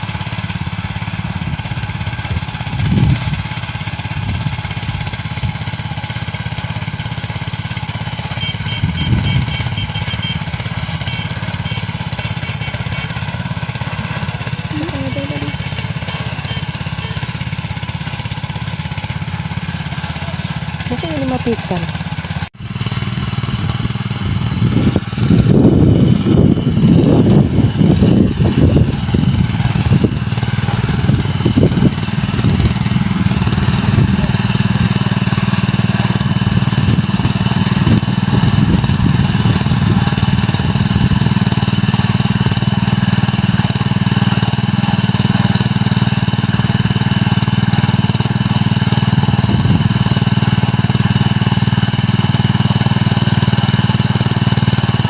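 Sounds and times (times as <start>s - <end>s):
small cultivator engine running: 0.0s - 55.0s.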